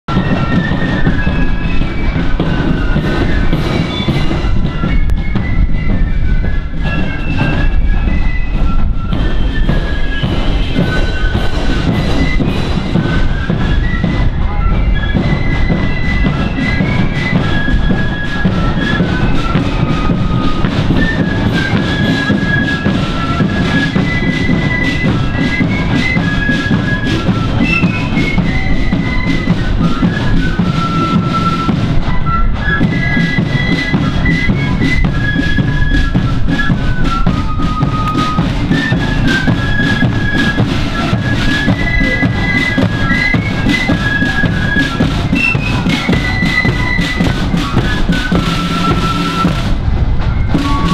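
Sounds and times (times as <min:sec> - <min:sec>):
flutes playing high melody: 0:00.1 - 0:50.9
side drum and bass drum: 0:00.1 - 0:50.9.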